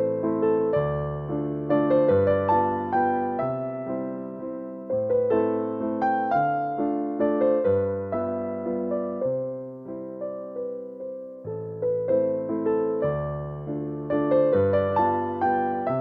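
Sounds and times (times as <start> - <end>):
slow solo piano music: 0.0 - 16.0.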